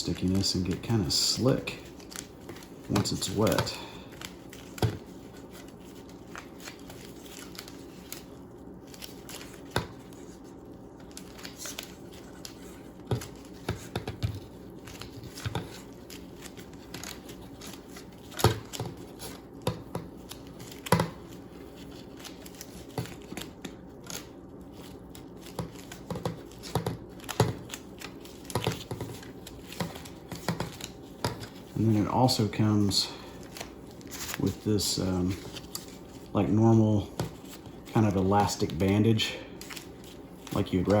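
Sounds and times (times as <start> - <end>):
crinkles and rustles of wrapping: 0.0 - 41.0
steady low hum: 0.0 - 41.0.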